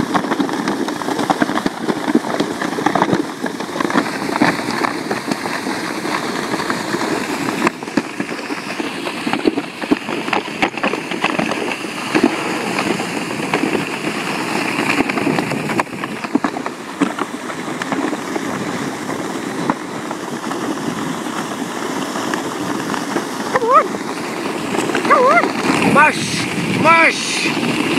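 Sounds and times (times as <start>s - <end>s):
wheels rolling over icy snow: 0.0s - 27.9s.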